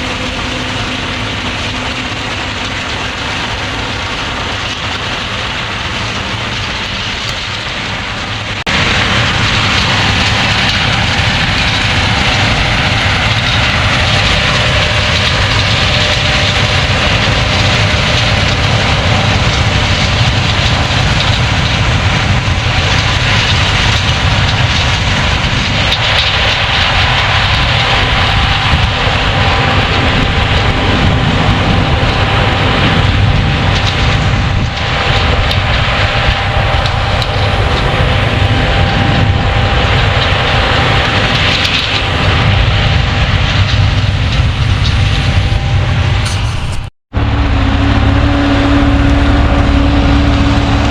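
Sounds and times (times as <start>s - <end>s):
farm machinery engine drone: 0.0s - 50.9s
steady machine whine: 0.0s - 50.9s.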